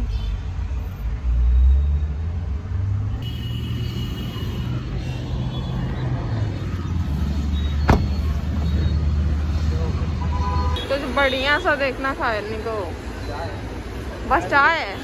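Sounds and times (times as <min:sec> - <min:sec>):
car and traffic rumble: 0:00.0 - 0:15.0.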